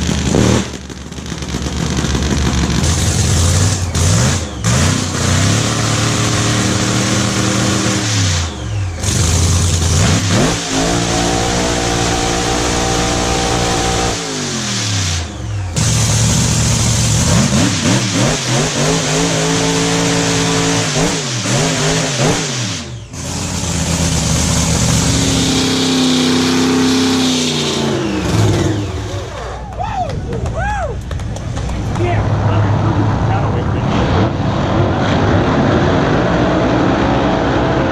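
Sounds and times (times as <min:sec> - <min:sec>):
racing car engines at full throttle: 0:00.0 - 0:37.9.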